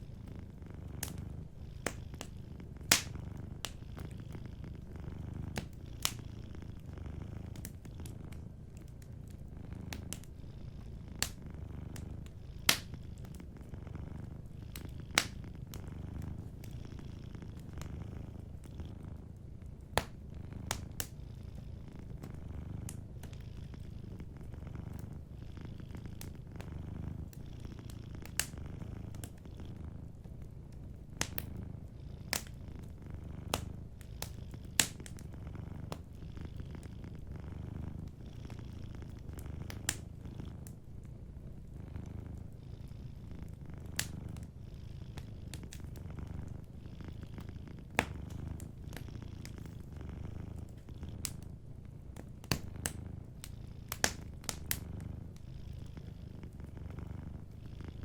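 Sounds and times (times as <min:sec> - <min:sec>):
wood fire crackling: 0:00.0 - 0:42.6, 0:43.5 - 0:55.4
cat purring: 0:00.0 - 0:58.0.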